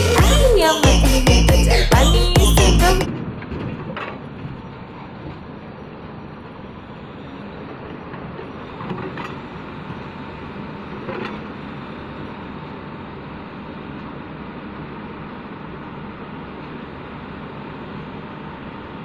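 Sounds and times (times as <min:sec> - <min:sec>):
dump truck engine running: 0:00.0 - 0:19.0.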